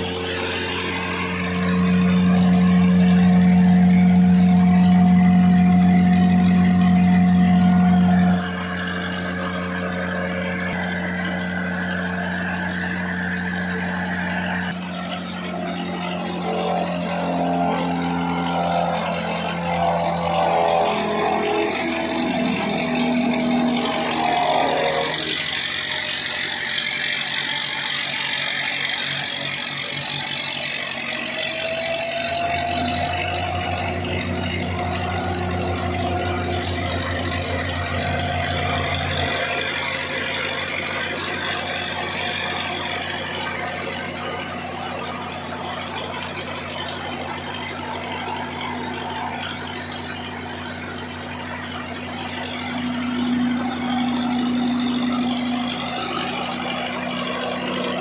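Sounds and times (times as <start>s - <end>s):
mill grinding grain: 0.0s - 58.0s
tractor diesel engine running: 0.0s - 58.0s.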